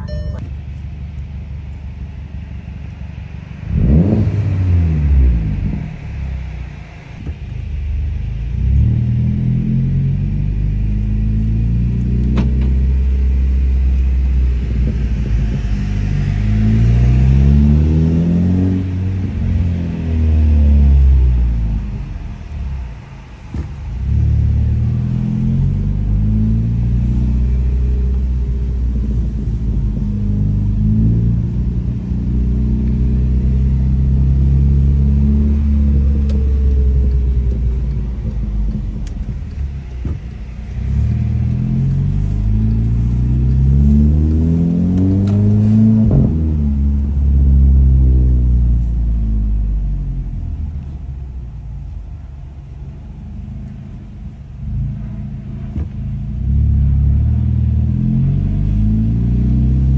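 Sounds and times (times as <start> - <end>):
car engine and exhaust: 0.0 - 59.9
exhaust crackles: 0.0 - 59.9.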